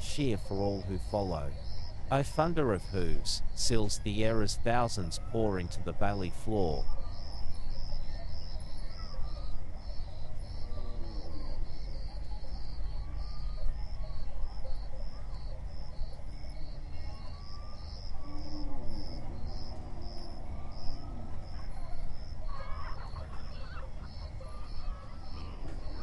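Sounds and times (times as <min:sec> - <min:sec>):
insects chirping: 0:00.1 - 0:26.0.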